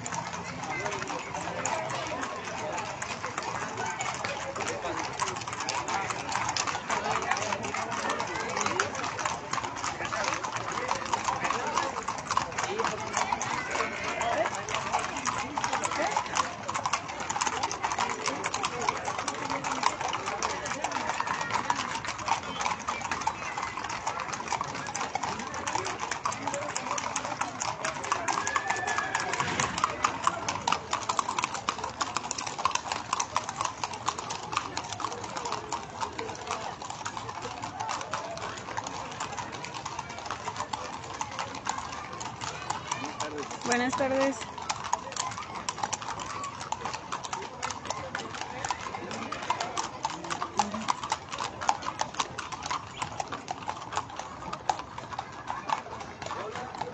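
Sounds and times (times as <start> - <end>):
horse hooves clip-clopping on stone: 0.0 - 56.9.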